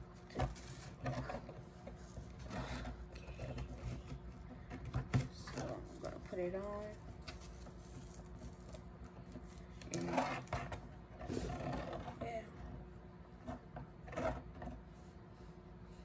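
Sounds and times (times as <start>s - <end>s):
steady low hum: 0.0s - 16.0s
wig rustling and scraping: 0.0s - 16.0s.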